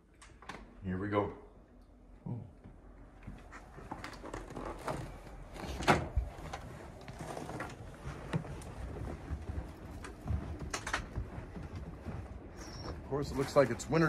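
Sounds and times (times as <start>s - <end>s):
footsteps on a deck: 2.6s - 14.0s.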